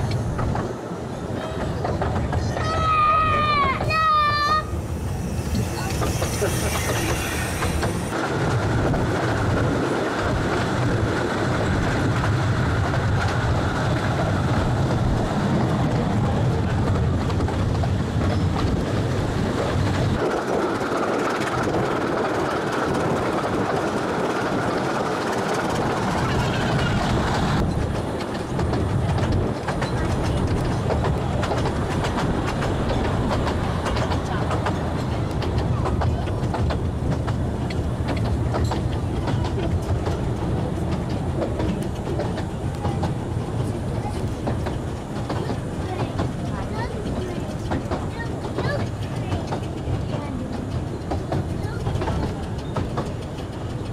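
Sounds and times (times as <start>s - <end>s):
train rumbling on track: 0.0s - 53.9s
wheels clattering over rails: 0.0s - 53.9s.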